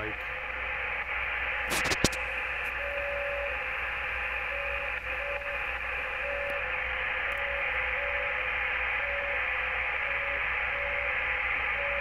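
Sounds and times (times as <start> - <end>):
faint low hum: 0.0 - 12.0
radio static hiss: 0.0 - 12.0
weak keyed radio tone: 0.8 - 12.0.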